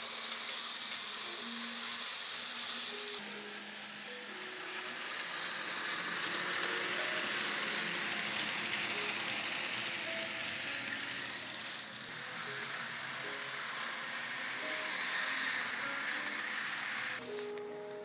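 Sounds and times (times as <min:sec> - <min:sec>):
model trains whirring: 0:00.0 - 0:18.0.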